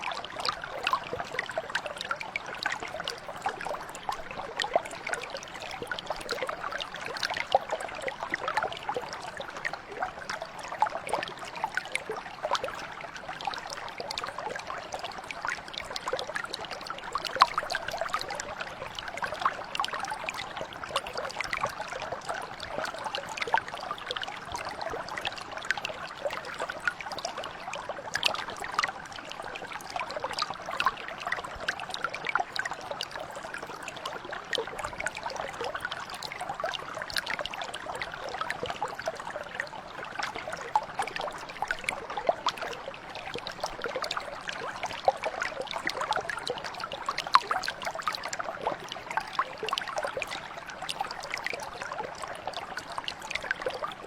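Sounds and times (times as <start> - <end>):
brook water flowing over stones: 0.0 - 54.0.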